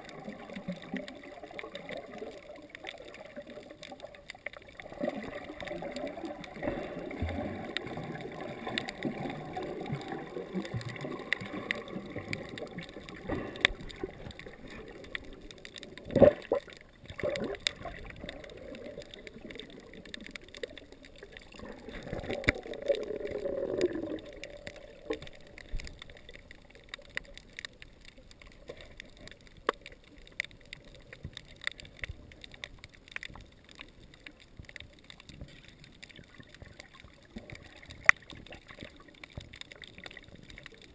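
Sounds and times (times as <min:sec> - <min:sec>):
clicks and crackles: 0:00.0 - 0:40.9
muffled underwater churning: 0:00.0 - 0:40.9.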